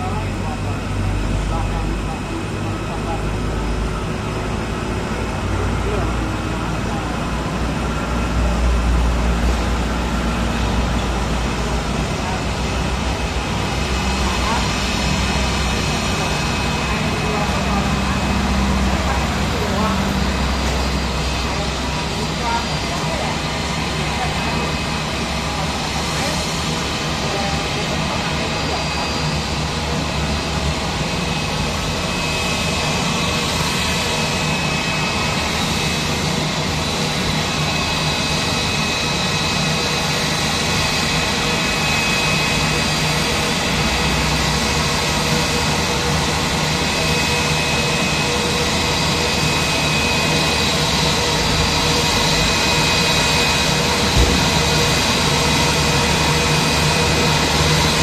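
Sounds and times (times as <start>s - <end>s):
jet engines roaring with whine: 0.0s - 58.0s.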